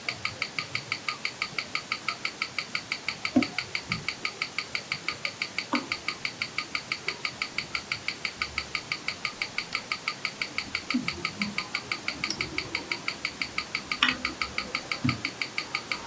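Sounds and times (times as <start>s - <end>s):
watch ticking: 0.0s - 16.0s.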